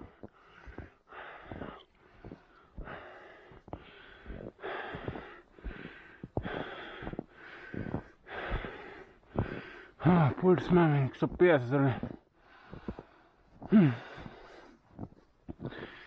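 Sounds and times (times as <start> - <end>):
runner breathing hard: 0.0 - 10.1, 11.9 - 16.0.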